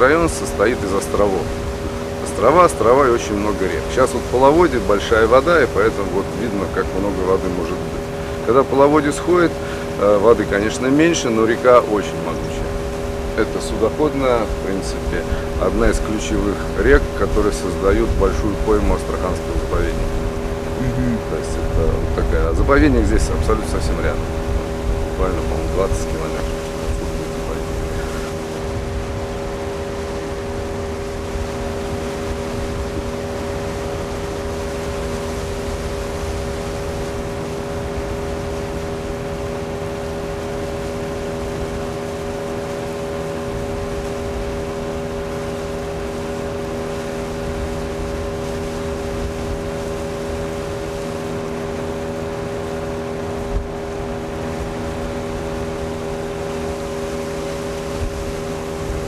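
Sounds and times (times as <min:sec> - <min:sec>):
outboard motor running: 0:00.0 - 0:59.0
water rushing: 0:00.0 - 0:59.0
wind: 0:00.0 - 0:59.0.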